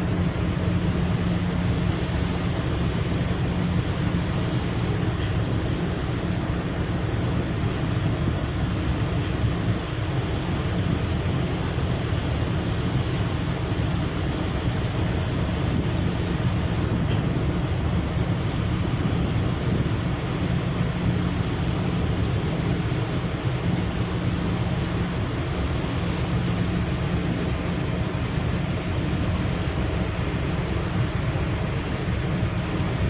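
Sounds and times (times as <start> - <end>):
ocean surf: 0.0 - 33.0
wind: 0.0 - 33.0
wind rumbling on microphone: 0.0 - 33.0.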